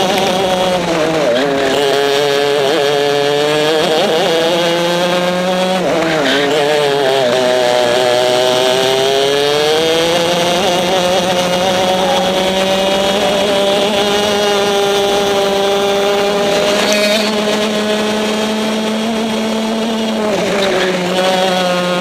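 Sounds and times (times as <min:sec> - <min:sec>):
kart engine at high revs: 0:00.0 - 0:22.0.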